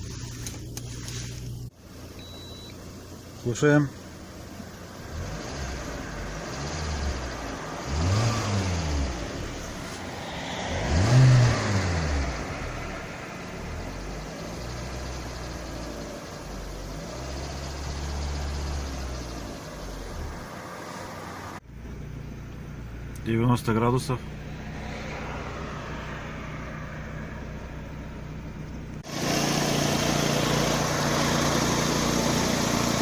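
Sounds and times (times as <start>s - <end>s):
car engine running while driven: 0.0s - 33.0s.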